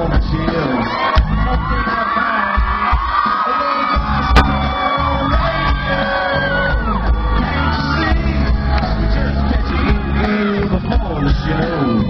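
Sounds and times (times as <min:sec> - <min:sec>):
crowd shouting and whooping: 0:00.0 - 0:12.0
live band with singing: 0:00.0 - 0:12.0.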